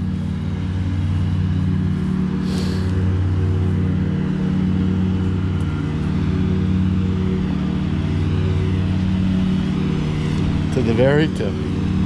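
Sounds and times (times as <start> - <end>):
wood chipper engine running: 0.0 - 12.0.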